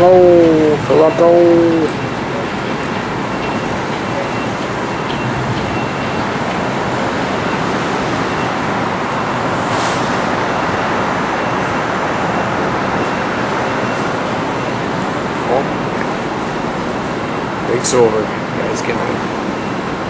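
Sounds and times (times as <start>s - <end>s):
city street traffic: 0.0s - 20.0s.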